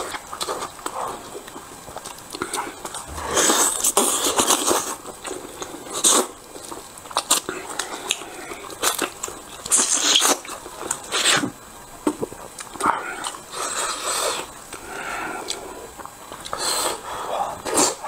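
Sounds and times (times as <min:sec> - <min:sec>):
man chewing and sucking meat: 0:00.0 - 0:18.0.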